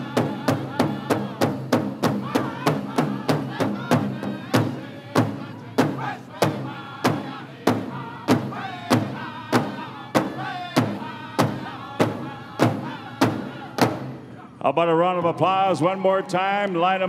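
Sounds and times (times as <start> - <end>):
big drum steady beat: 0.0 - 14.4.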